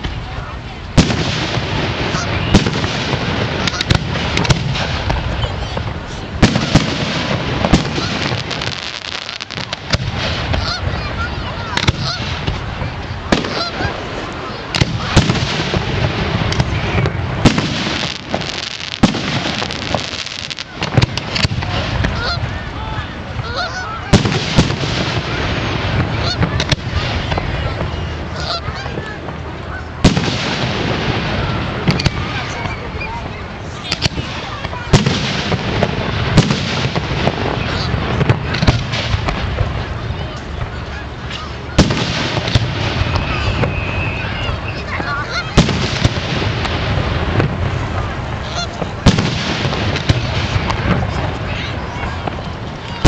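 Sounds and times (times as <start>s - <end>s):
crowd voices: 0.0s - 53.0s
fireworks bursting: 0.0s - 53.0s.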